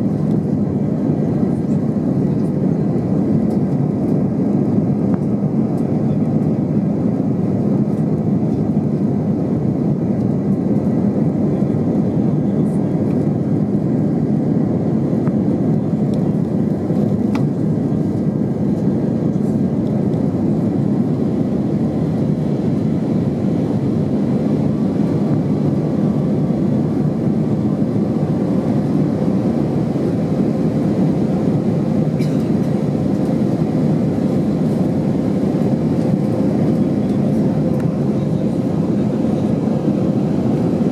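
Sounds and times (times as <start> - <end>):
jet engines rumbling: 0.0 - 40.9.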